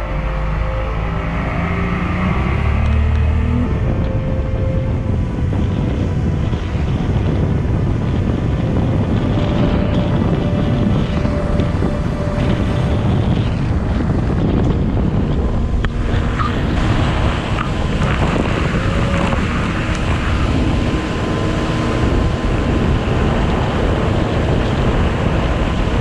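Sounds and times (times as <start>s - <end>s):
boat wash rushing on water: 0.0s - 26.0s
outboard motor droning: 0.0s - 26.0s
wind buffeting microphone: 0.0s - 26.0s.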